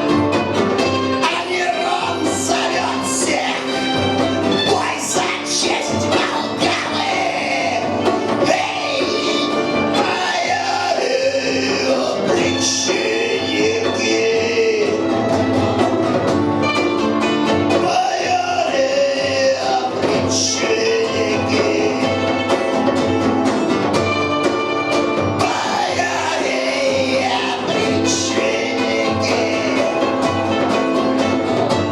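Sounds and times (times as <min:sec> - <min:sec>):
punk rock band playing: 0:00.0 - 0:31.9
person singing: 0:00.9 - 0:15.4, 0:17.7 - 0:22.8, 0:25.4 - 0:31.3.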